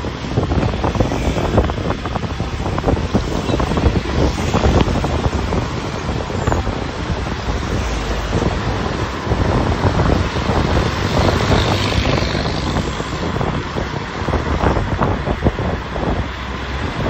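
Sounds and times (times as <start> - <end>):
moving vehicle rumble: 0.0 - 17.0
wind buffeting microphone: 0.0 - 17.0.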